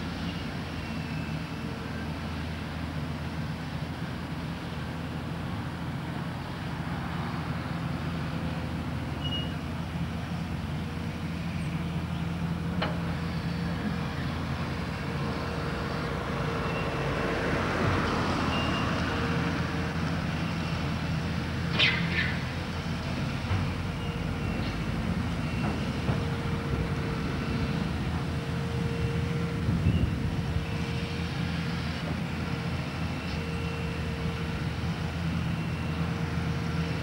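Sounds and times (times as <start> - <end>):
low rumble of vehicle engines: 0.0 - 37.0.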